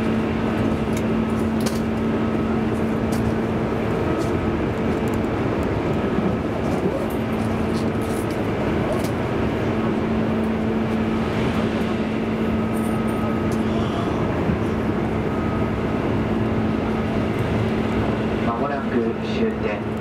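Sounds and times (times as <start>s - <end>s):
low hum: 0.0s - 20.0s
train wheels rumbling on rails: 0.0s - 20.0s.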